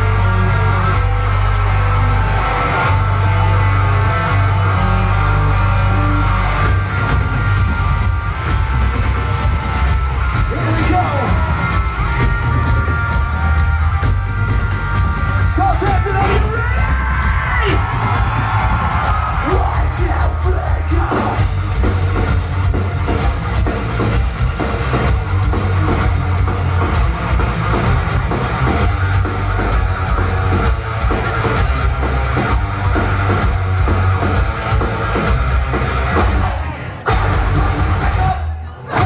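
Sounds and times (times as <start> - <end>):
distorted electric guitars: 0.0 - 39.0
heavy bass: 0.0 - 39.0
live metal band: 0.0 - 39.0
drum kit: 6.6 - 38.4.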